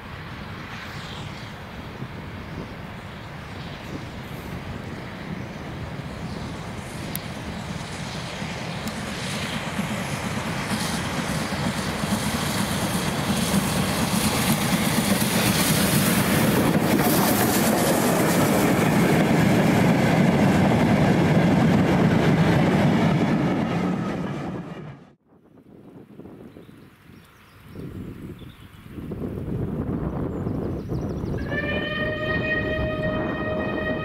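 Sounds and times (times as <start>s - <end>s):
steam train running past: 0.0s - 25.2s, 31.3s - 34.0s.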